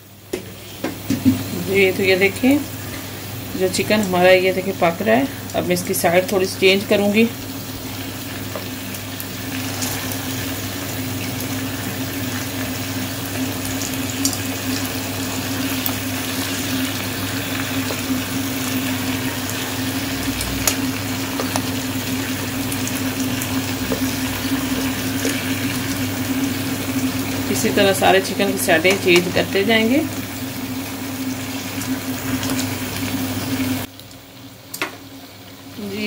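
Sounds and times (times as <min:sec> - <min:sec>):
chicken sizzling in a pan: 0:00.0 - 0:36.0.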